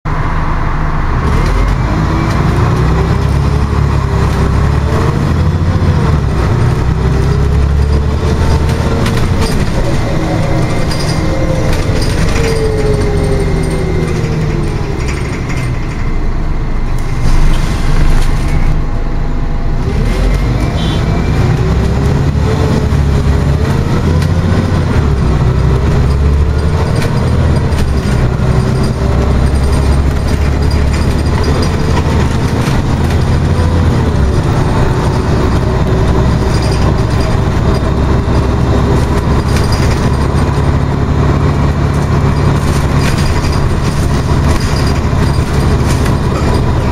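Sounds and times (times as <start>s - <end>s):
bus engine drone with whine: 0.0s - 46.9s.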